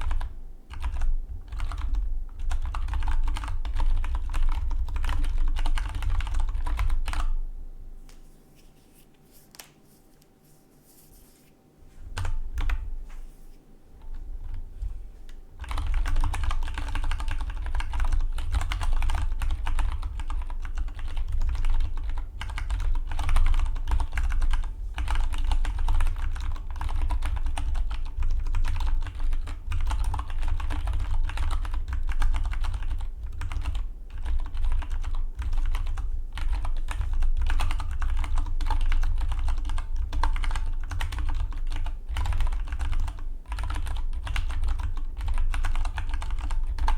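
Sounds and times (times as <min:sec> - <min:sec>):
typing on mechanical keyboard: 0:00.0 - 0:07.4, 0:15.6 - 0:46.9.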